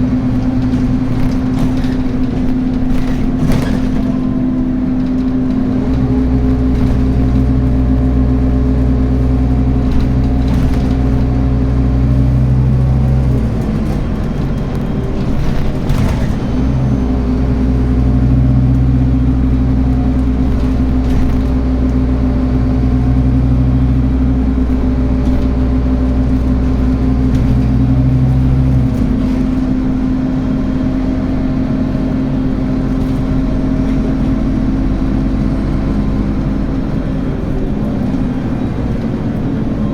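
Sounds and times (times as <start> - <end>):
bus engine hum: 0.0 - 39.9.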